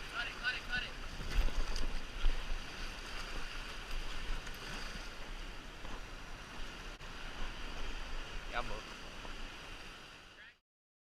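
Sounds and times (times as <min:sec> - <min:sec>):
moving water: 0:00.0 - 0:10.6.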